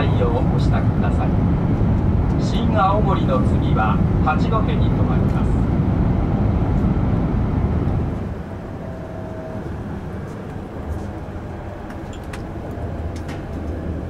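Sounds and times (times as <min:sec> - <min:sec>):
train running noise inside car: 0:00.0 - 0:14.0.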